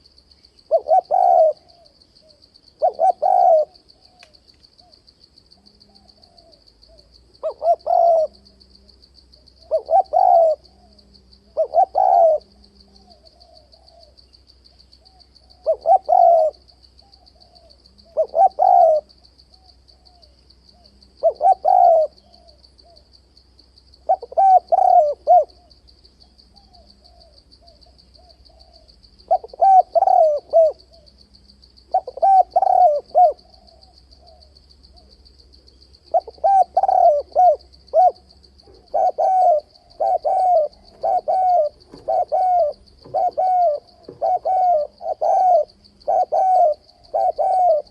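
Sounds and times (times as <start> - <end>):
dove cooing: 0.7 - 5.0, 5.6 - 14.2, 15.0 - 23.0, 24.0 - 25.8, 26.5 - 47.9.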